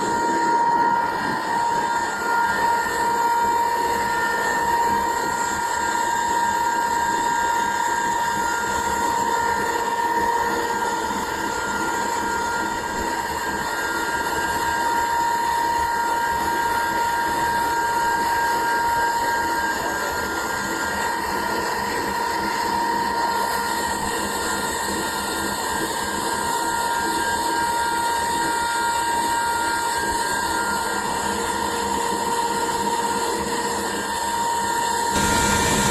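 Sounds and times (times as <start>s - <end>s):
machine droning with high whine: 0.0s - 35.9s.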